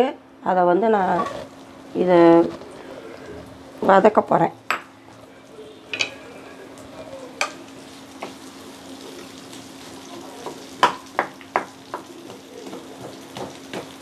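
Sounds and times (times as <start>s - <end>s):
onions sizzling in oil: 0.7s - 14.0s.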